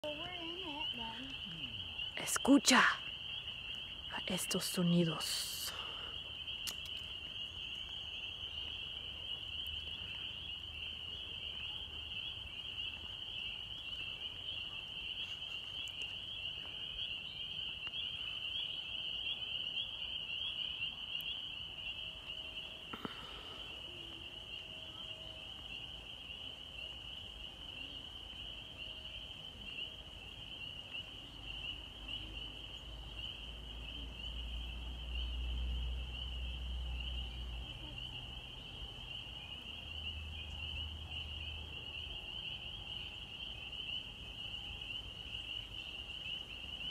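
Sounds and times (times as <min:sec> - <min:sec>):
frogs peeping in chorus: 0:00.0 - 0:46.9.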